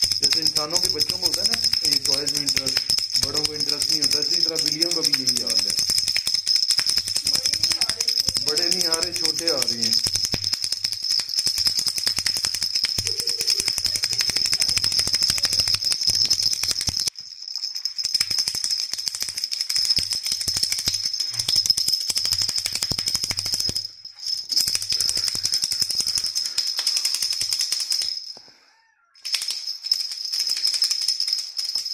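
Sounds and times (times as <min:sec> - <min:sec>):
cat toy rattling: 0:00.0 - 0:28.4, 0:29.2 - 0:31.9.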